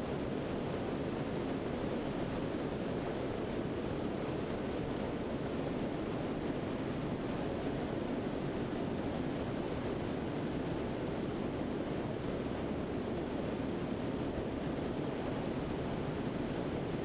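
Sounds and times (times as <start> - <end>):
aircraft engine and wind roar: 0.0 - 17.0.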